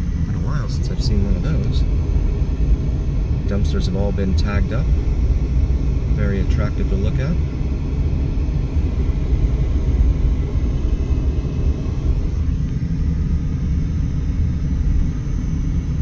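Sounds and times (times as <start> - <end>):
car driving heard from inside: 0.0 - 16.0.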